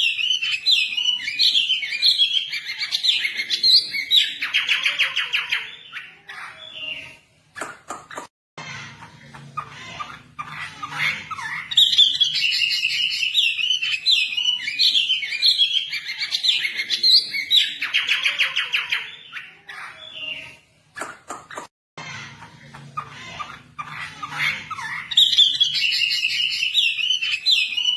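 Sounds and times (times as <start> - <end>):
songbird chirping and trilling: 0.0 - 7.3, 8.7 - 20.7, 22.1 - 27.9.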